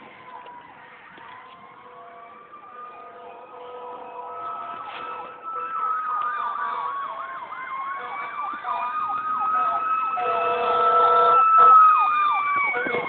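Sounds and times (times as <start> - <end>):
siren yelping: 0.1 - 13.0.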